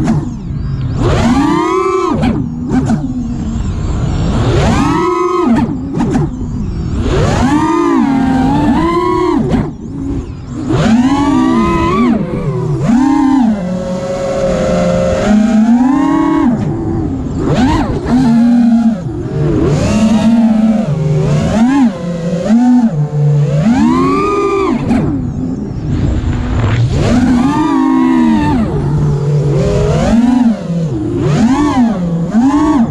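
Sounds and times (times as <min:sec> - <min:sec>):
drone motors whining: 0:00.0 - 0:32.9.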